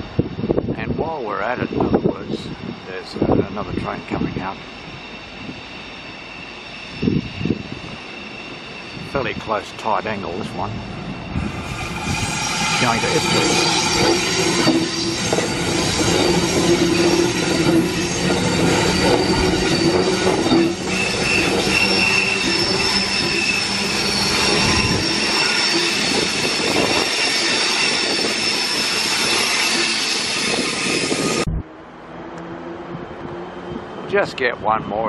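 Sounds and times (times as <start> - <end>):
train wheels rumbling: 0.0 - 35.0
high-pitched wheel squeal: 1.4 - 31.5.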